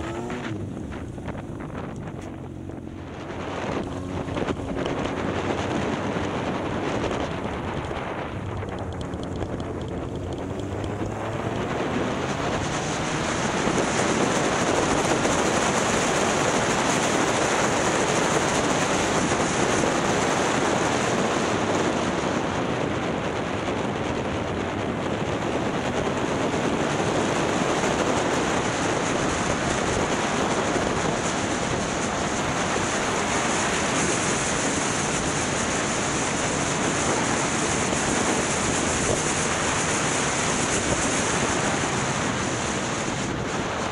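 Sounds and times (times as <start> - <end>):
wind roaring over microphone: 0.0 - 43.9.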